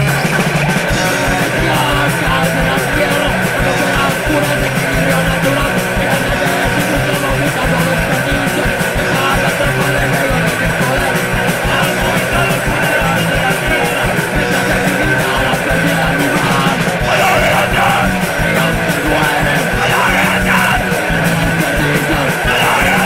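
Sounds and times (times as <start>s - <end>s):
bass guitar: 0.0s - 23.0s
distorted electric guitars: 0.0s - 23.0s
fast kick-drum beat: 0.0s - 23.0s.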